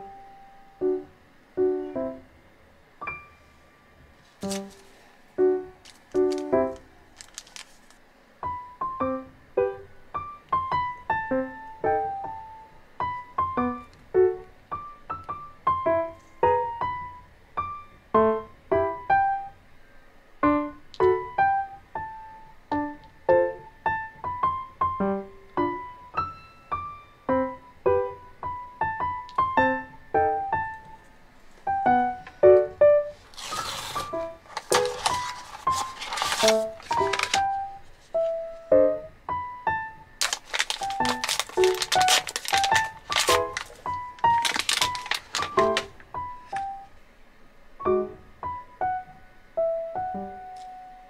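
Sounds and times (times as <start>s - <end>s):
solo piano piece: 0.0s - 7.6s, 8.3s - 51.0s.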